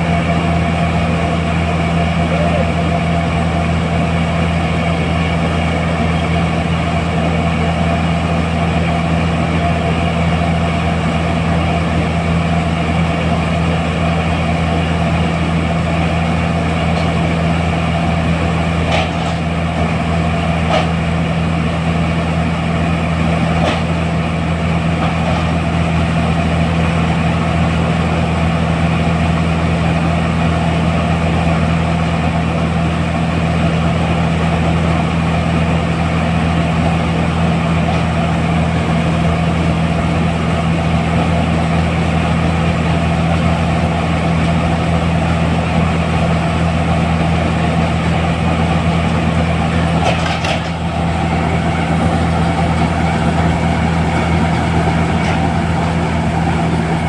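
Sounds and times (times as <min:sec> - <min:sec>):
combine harvester diesel engine droning: 0:00.0 - 0:57.0.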